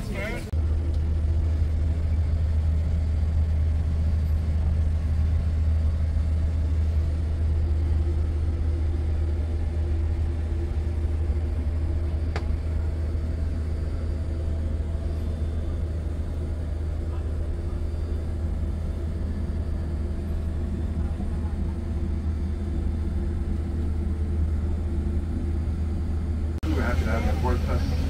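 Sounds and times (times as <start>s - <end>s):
airliner cabin rumble and hum: 0.0s - 28.0s.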